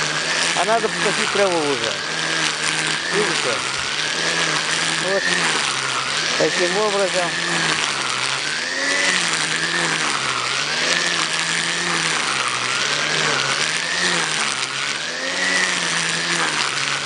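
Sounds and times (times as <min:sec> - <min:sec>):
string trimmer motor whine: 0:00.0 - 0:17.0
trimmer line cutting grass: 0:00.0 - 0:17.0.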